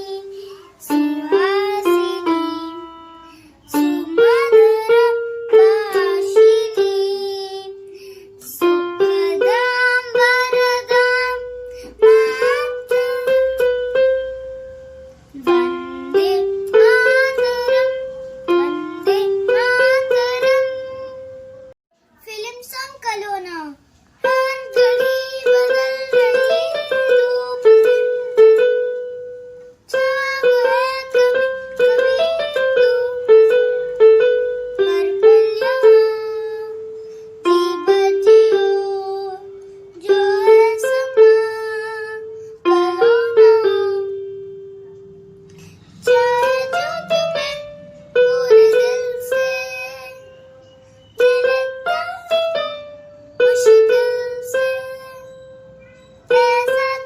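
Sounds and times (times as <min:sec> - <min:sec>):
electronic keyboard melody: 0:00.0 - 0:21.8, 0:24.2 - 0:57.0.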